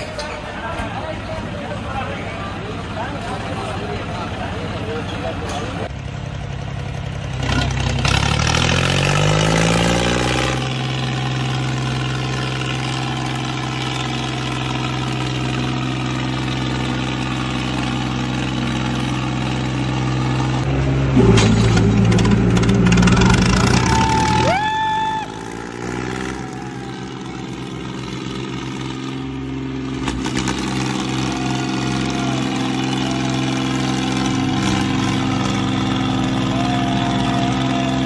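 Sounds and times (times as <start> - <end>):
tractor diesel engines revving: 0.0 - 38.0.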